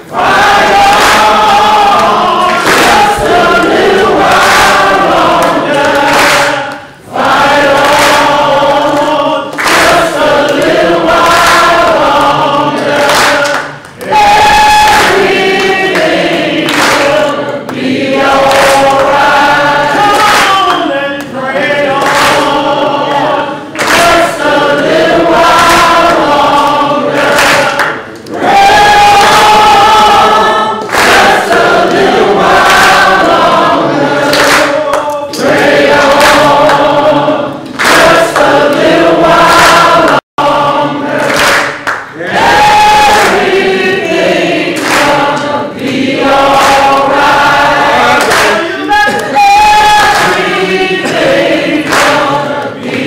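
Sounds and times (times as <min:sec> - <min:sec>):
congregation singing: 0:00.0 - 0:53.0
hands clapping along: 0:00.0 - 0:53.0.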